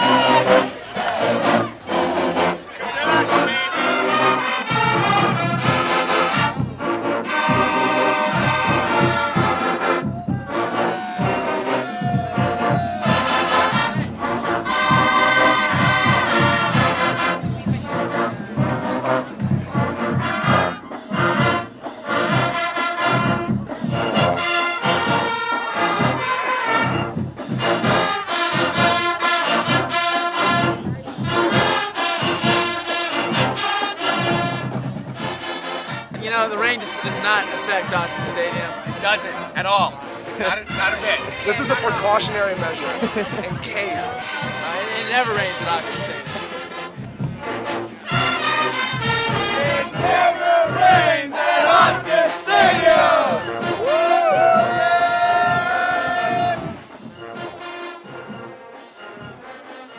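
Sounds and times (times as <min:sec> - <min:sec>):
brass band music: 0:00.0 - 0:59.9.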